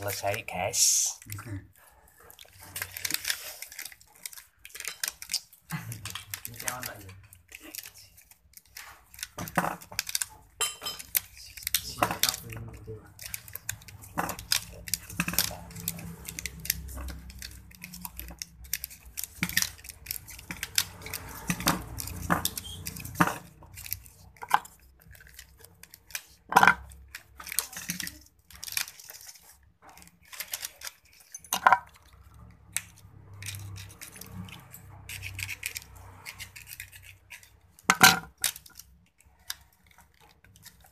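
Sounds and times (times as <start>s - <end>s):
small metallic clicks and rattles: 2.2s - 40.9s.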